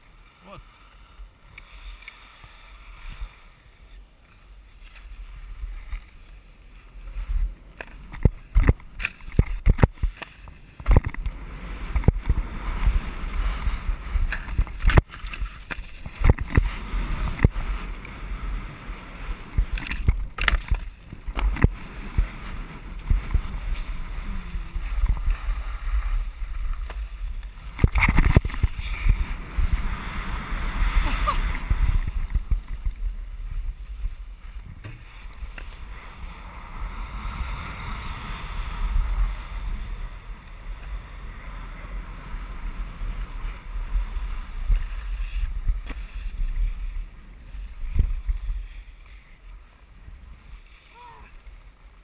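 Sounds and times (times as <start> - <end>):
skis scraping over snow: 0.0 - 52.0
wind buffeting microphone: 7.0 - 51.1.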